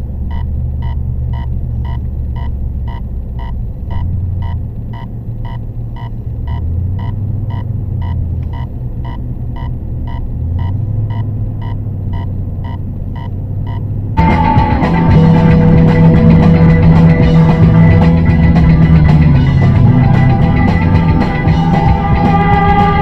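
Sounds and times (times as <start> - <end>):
car engine and road hum: 0.0 - 23.0
turn signal ticking: 0.0 - 23.0.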